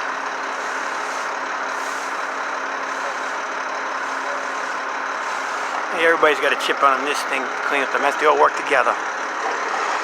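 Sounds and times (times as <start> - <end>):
heavy truck engine running: 0.0 - 10.0
street noise: 0.0 - 10.0.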